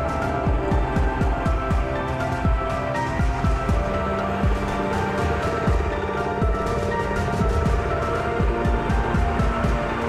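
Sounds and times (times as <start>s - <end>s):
background music with kick drum: 0.0s - 10.0s.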